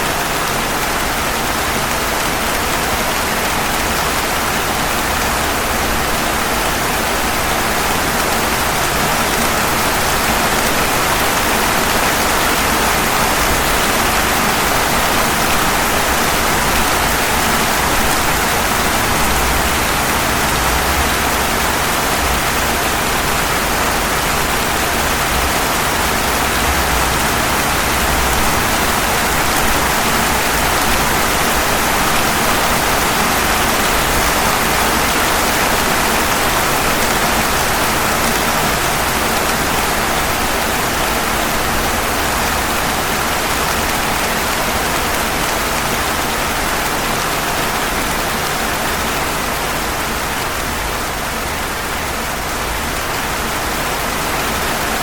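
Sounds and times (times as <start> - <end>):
rain falling on pavement: 0.0 - 55.0.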